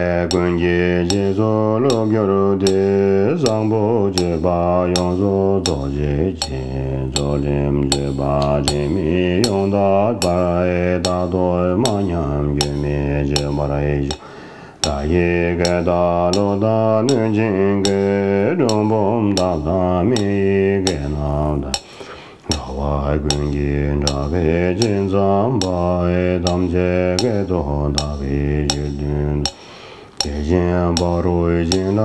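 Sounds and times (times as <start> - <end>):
man chanting: 0.0 - 14.2, 14.8 - 29.6, 30.2 - 32.0
sharp clicks keeping time: 0.0 - 32.0.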